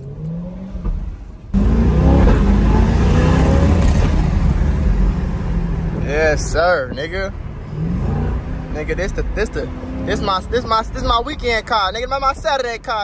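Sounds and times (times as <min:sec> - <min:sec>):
car engine accelerating hard: 0:00.0 - 0:11.1.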